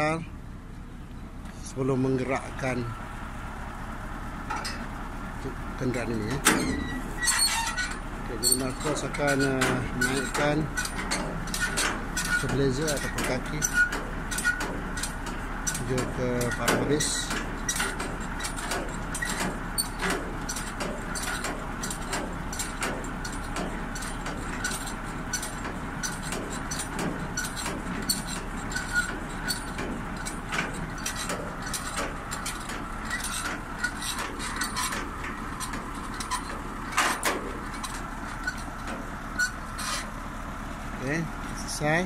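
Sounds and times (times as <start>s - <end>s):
vehicle hum: 0.0s - 42.0s
hand crank gearing clanking: 5.8s - 40.3s.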